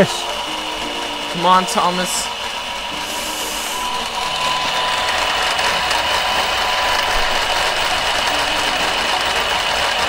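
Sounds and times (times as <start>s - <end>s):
toy train motors whirring: 0.0s - 10.0s.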